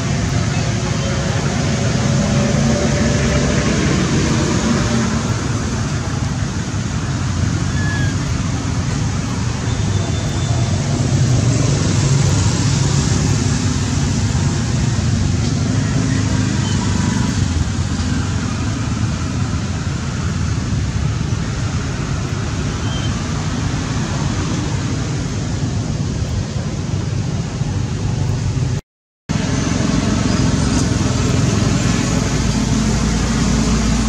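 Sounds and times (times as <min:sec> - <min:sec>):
loud rushing noise: 0:00.0 - 0:34.0.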